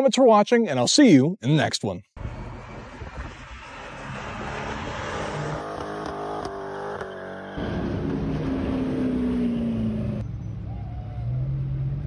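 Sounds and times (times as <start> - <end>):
loud engine with falling pitch: 2.2 - 12.0.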